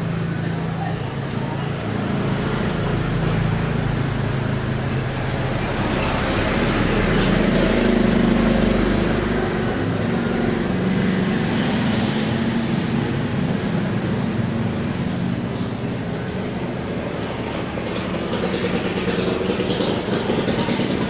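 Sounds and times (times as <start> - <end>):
road traffic engine hum: 0.0 - 21.0.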